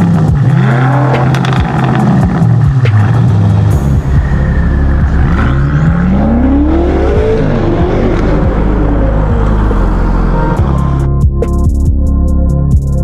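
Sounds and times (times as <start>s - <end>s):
car engine accelerating hard: 0.0s - 11.1s.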